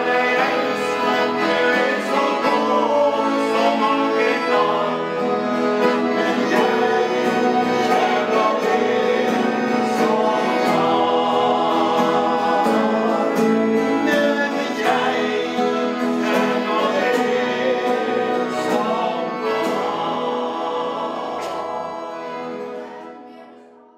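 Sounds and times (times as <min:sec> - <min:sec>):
two men singing in harmony: 0:00.0 - 0:22.8
accordion: 0:00.0 - 0:23.9
acoustic guitar: 0:00.0 - 0:23.9.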